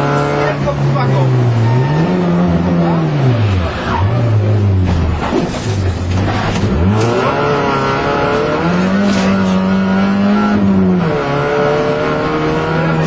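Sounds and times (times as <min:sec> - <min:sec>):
rally car engine working hard: 0:00.0 - 0:13.0.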